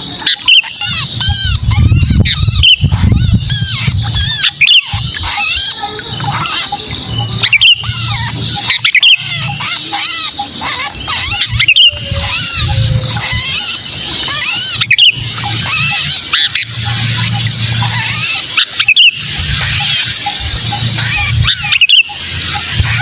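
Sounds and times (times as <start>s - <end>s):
bird distress calls: 0.0s - 23.0s.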